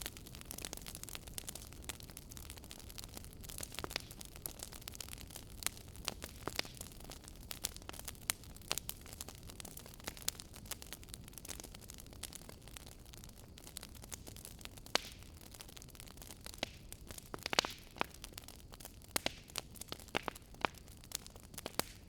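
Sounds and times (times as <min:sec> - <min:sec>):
low steady hiss: 0:00.0 - 0:22.0
wood fire crackling: 0:00.0 - 0:22.0.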